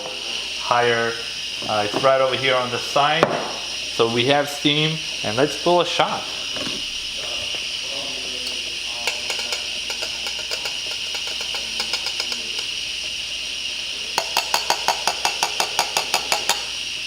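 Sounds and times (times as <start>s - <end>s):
espresso machine hissing: 0.0s - 17.0s.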